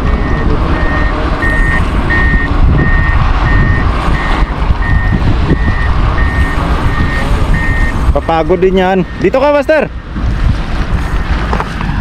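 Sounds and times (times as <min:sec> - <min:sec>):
reversing alarm beeping: 0:00.0 - 0:10.0.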